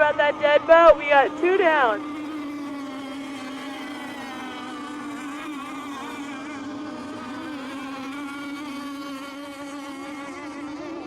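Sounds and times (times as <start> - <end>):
racing boat engines buzzing: 0.0 - 11.0.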